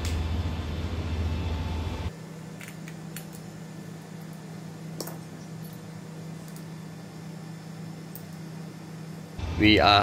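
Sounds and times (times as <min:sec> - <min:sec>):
loud low hum: 0:00.0 - 0:02.5, 0:03.5 - 0:10.0
quieter steady hum: 0:00.0 - 0:10.0.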